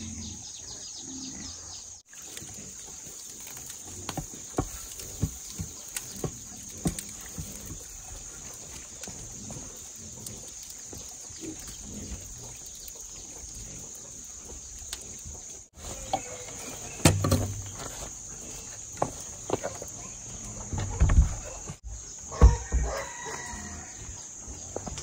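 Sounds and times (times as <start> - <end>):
embers crackling: 2.0 - 25.0.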